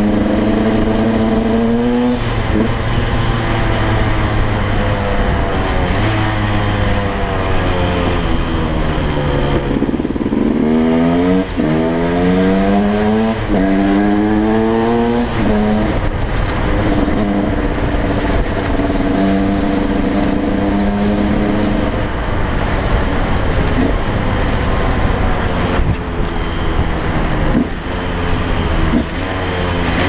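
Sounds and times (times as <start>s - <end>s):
motorcycle engine revving through gears: 0.0s - 30.0s
wind rush on microphone: 0.0s - 30.0s.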